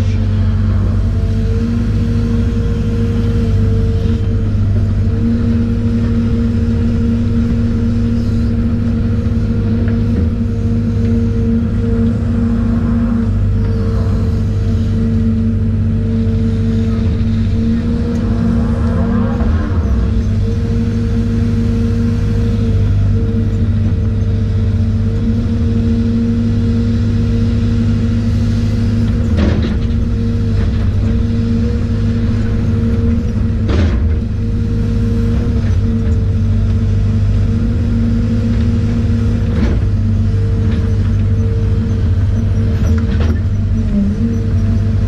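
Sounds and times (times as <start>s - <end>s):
excavator diesel engine drone: 0.0s - 45.0s.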